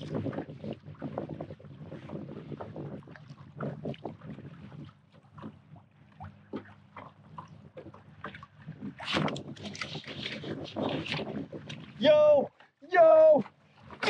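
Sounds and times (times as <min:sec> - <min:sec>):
waves lapping against kayak hull: 0:00.0 - 0:14.0
wind buffeting microphone: 0:00.0 - 0:14.0.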